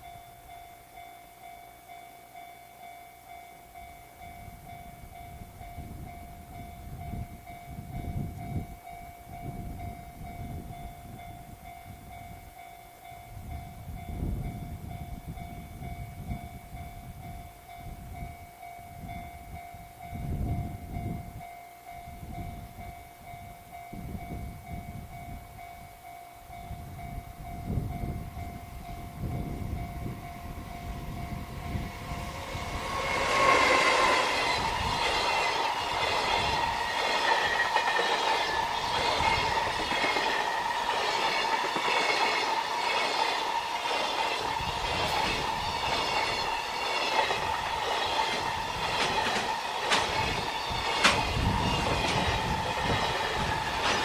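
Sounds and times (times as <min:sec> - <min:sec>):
level-crossing alarm ringing: 0:00.0 - 0:54.0
wind rumbling on microphone: 0:04.4 - 0:12.5, 0:13.4 - 0:21.5, 0:22.1 - 0:25.9, 0:26.5 - 0:54.0.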